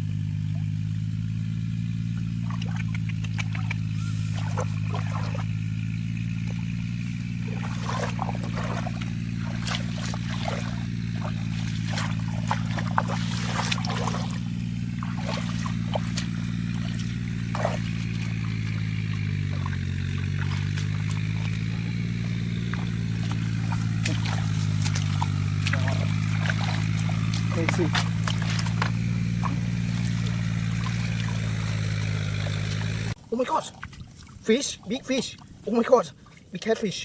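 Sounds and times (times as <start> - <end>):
engine running: 0.0 - 35.8
water trickling and splashing: 0.0 - 37.0.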